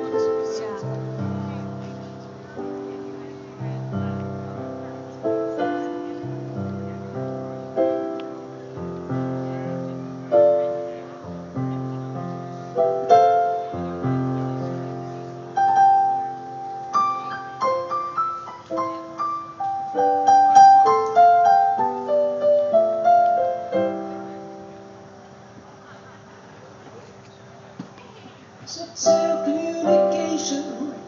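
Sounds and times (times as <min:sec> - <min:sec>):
piano playing: 0:00.0 - 0:25.5, 0:28.7 - 0:31.0.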